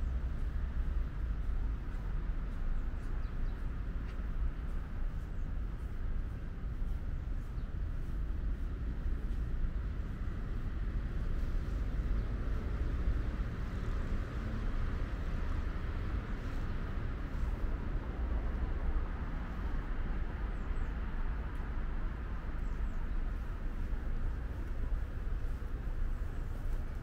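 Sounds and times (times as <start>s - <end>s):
distant city traffic rumble: 0.0s - 27.0s.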